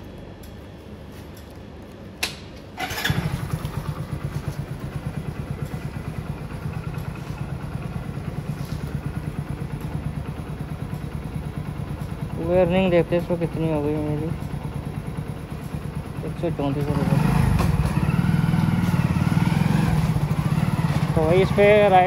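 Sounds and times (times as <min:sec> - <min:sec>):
motorcycle engine idling: 0:02.8 - 0:22.0
motorcycle starter whirring: 0:02.8 - 0:22.0.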